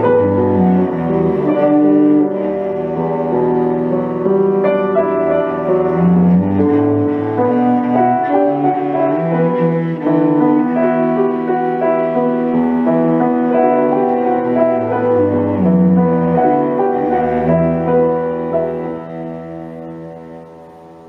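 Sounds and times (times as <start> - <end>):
cello: 0.0 - 21.0
piano: 0.0 - 21.0.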